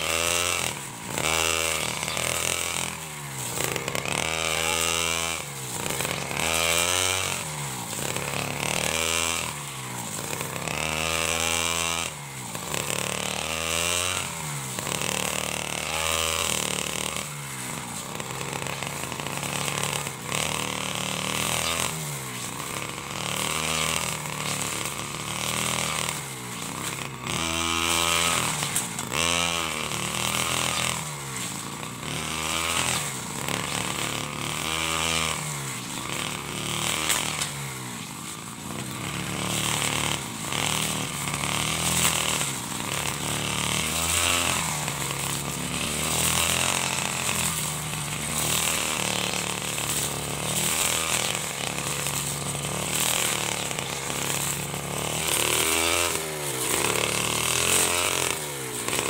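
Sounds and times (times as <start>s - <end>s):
brush cutter engine revving: 0.0s - 59.0s.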